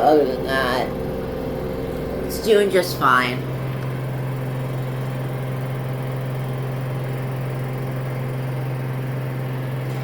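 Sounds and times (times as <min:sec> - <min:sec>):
washing machine spinning: 0:00.0 - 0:10.0.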